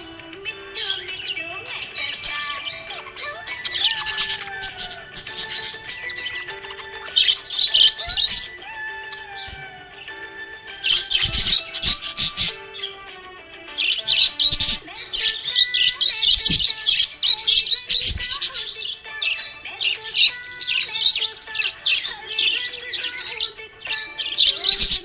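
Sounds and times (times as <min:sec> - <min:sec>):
budgerigars chirping: 0:00.0 - 0:25.0
faint background music: 0:00.0 - 0:25.0.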